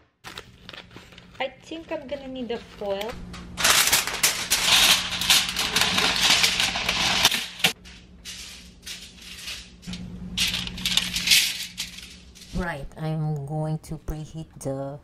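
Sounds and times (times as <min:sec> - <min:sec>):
aluminium foil crinkling: 0:00.2 - 0:12.7.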